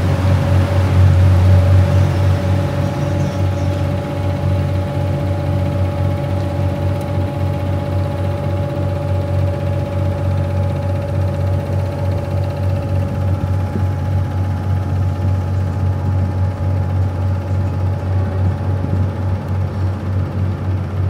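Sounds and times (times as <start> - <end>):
boat engine droning: 0.0 - 21.0
higher-pitched hum: 0.0 - 21.0.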